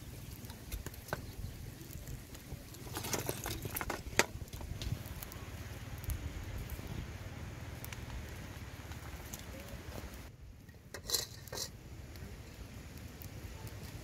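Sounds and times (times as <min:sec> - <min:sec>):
stick fire crackling: 0:00.0 - 0:14.0.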